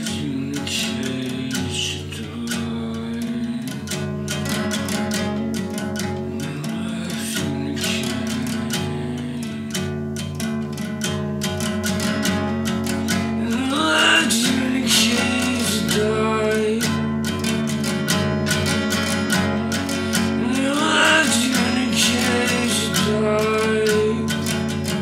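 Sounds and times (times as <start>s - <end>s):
person singing: 0.0s - 10.0s, 12.9s - 17.9s, 19.0s - 25.0s
acoustic guitar picking: 0.0s - 25.0s.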